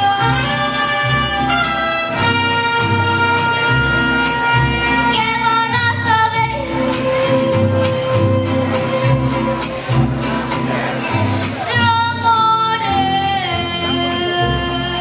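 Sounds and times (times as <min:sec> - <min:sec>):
mariachi band playing: 0:00.0 - 0:15.0
pulsing bass: 0:00.0 - 0:15.0
strummed guitars: 0:00.0 - 0:15.0.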